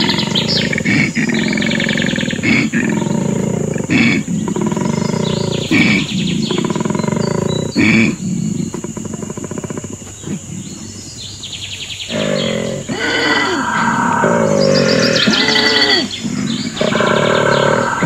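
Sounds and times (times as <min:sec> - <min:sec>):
koala bellowing: 0:00.0 - 0:11.1, 0:12.1 - 0:18.0.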